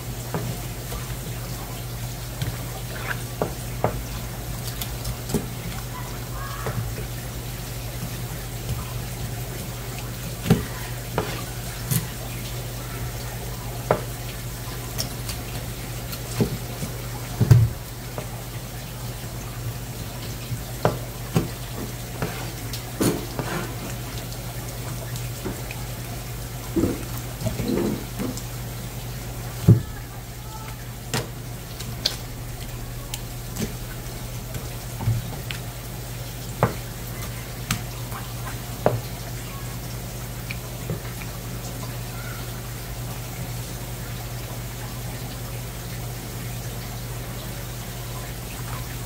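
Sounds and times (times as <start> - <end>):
low steady hum: 0.0 - 49.0
tap water running onto board: 0.1 - 42.0.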